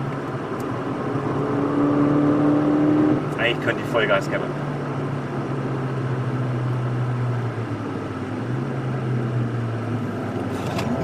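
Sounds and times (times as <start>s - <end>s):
car engine while driving: 0.0s - 11.0s
road and tyre noise: 0.0s - 11.0s.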